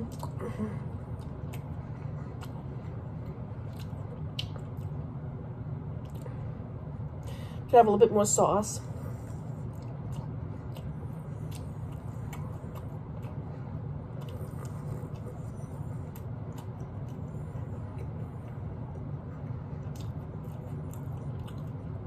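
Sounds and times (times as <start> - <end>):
chewing meat off a rib: 0.0 - 7.2, 9.0 - 22.0
low background hum: 0.0 - 22.0.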